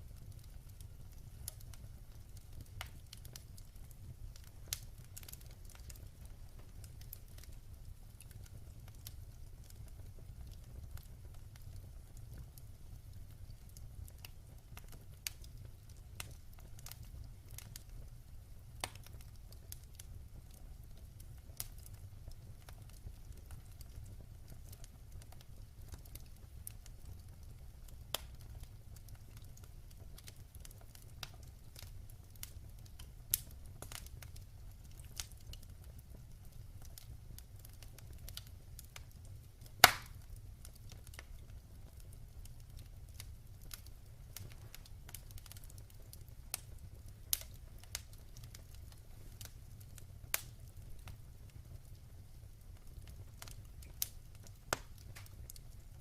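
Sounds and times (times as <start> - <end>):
fire crackles and pops: 0.0 - 56.0
fire flames rumbling: 0.0 - 56.0.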